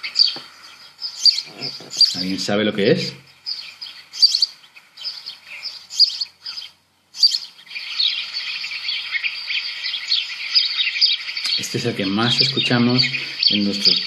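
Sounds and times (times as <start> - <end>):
sparrow chirping: 0.0 - 14.0.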